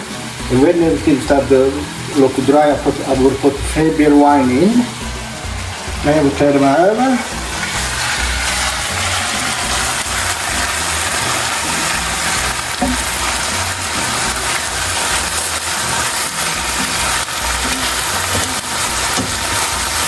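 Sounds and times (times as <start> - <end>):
chicken and onions sizzling in oil: 0.0 - 20.0.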